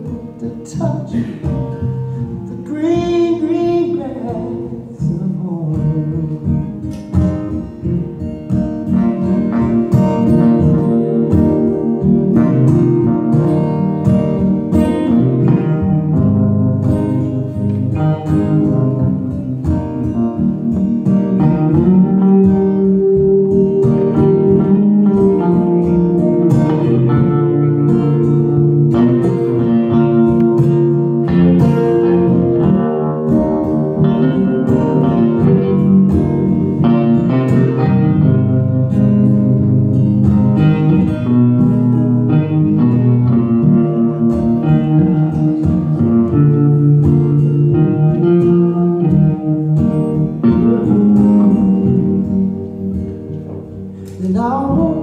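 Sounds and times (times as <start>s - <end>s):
acoustic guitar: 0.0s - 55.0s
electric guitar: 0.0s - 55.0s.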